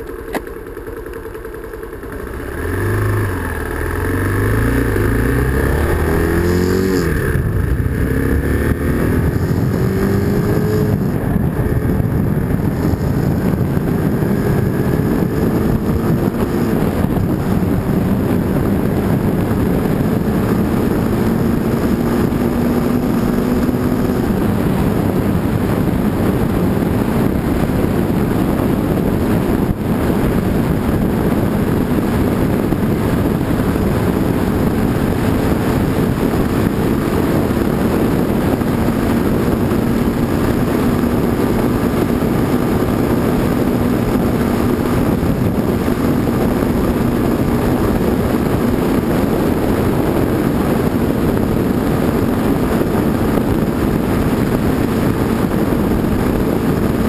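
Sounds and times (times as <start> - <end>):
motorcycle engine accelerating: 0.0 - 57.0
rush of wind and road noise: 0.0 - 57.0.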